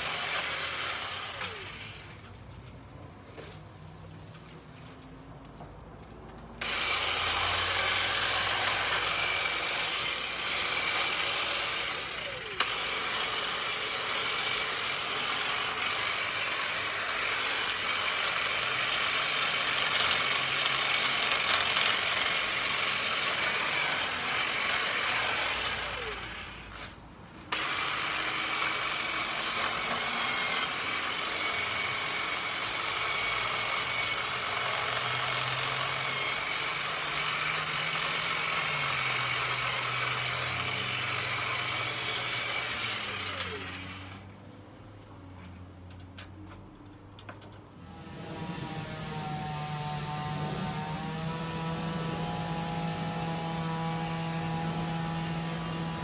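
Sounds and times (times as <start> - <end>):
hedge trimmer whine: 0.0 - 2.4, 6.6 - 26.9, 27.5 - 44.3, 47.8 - 56.0.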